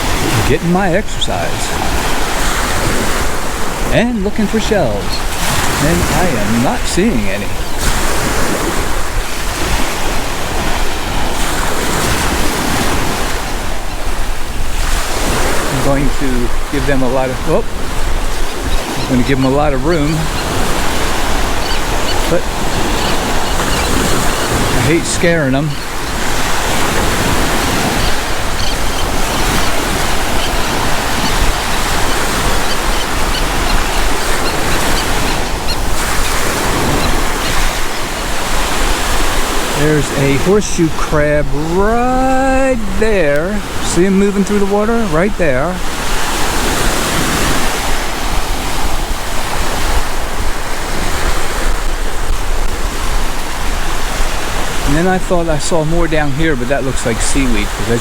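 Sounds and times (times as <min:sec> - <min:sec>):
surf washing on sandy beach: 0:00.0 - 0:58.0
wind buffeting microphone: 0:00.0 - 0:58.0.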